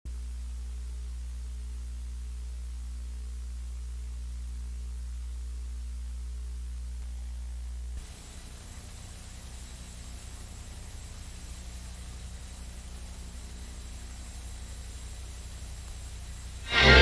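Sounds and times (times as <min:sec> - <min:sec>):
electrical hum: 0:00.1 - 0:17.0
tape hiss: 0:00.1 - 0:17.0.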